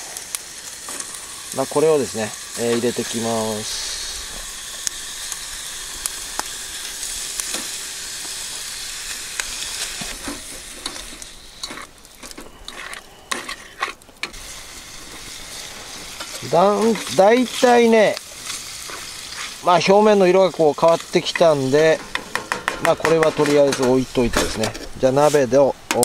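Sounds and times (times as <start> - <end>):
chicken sizzling and frying: 0.0 - 26.0.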